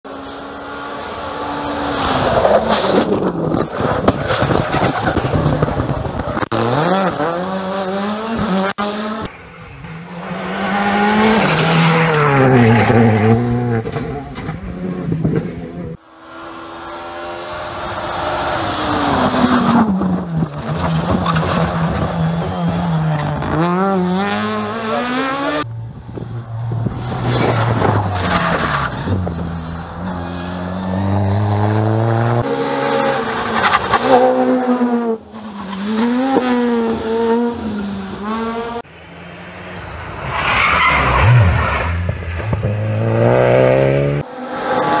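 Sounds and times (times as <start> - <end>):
rally car engines revving: 0.1 - 45.0.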